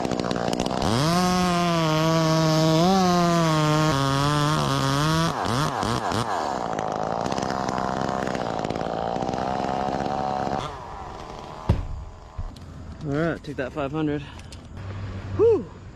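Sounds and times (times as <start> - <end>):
chainsaw revving: 0.0 - 13.0.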